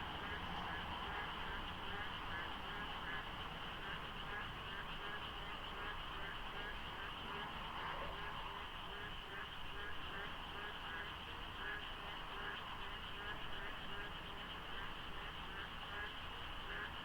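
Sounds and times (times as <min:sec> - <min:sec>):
chorus of frogs calling: 0:00.1 - 0:17.0.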